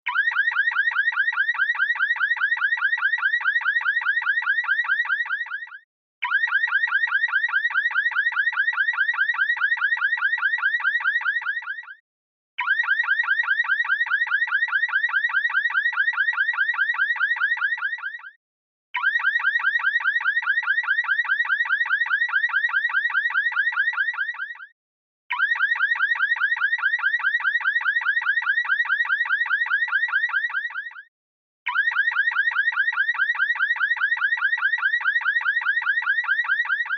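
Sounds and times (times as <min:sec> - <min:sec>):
car alarm siren warbling: 0:00.0 - 0:12.0, 0:12.6 - 0:18.4, 0:19.0 - 0:24.7, 0:25.3 - 0:31.0, 0:31.7 - 0:36.9.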